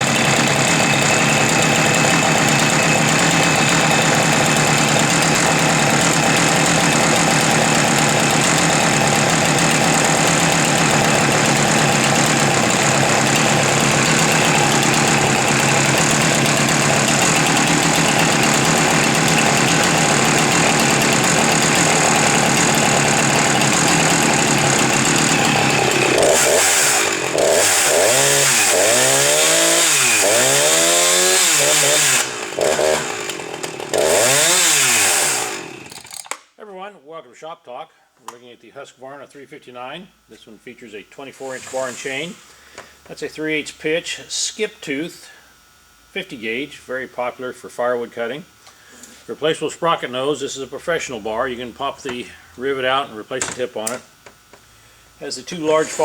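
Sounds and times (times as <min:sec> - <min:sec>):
chainsaw running: 0:00.0 - 0:36.5, 0:40.7 - 0:56.0.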